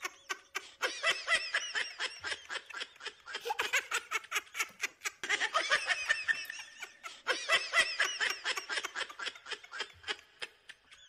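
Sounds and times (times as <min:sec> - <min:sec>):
people laughing and giggling: 0:00.0 - 0:11.0.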